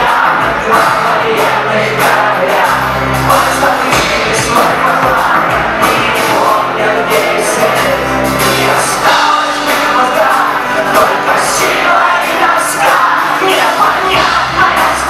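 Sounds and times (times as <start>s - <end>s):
audience singing along: 0.0s - 15.0s
bass: 0.0s - 15.0s
drums with cymbal hits: 0.0s - 15.0s
electric guitars: 0.0s - 15.0s
person singing: 0.0s - 15.0s.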